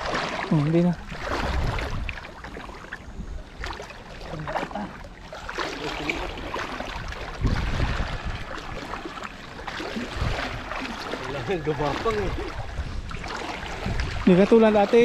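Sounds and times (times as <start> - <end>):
river water splashing: 0.0 - 15.0.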